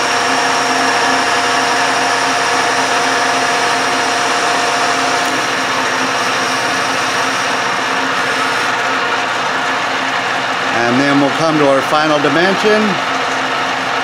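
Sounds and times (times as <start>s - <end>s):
machine whine: 0.0s - 14.0s
metal lathe running: 0.0s - 14.0s.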